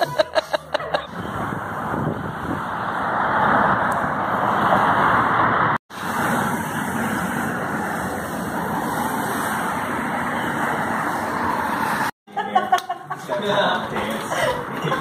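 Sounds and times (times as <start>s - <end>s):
road traffic hiss: 0.1s - 12.2s.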